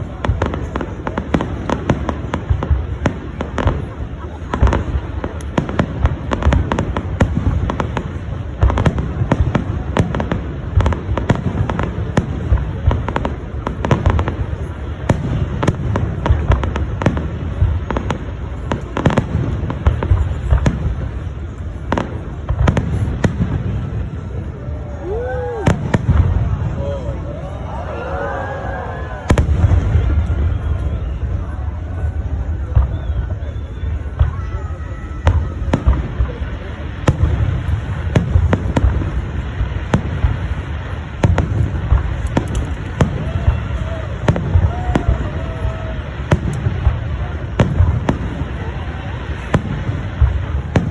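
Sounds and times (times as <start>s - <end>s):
distant fireworks rumble: 0.0s - 50.9s
fireworks banging: 0.0s - 50.9s.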